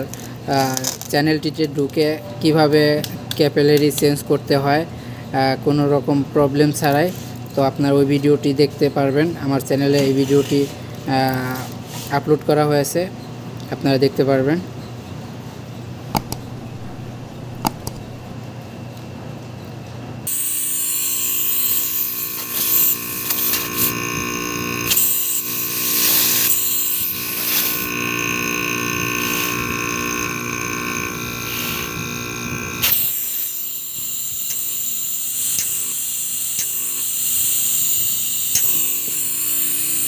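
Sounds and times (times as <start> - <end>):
air conditioner compressor humming: 0.0 - 19.2, 20.0 - 40.0.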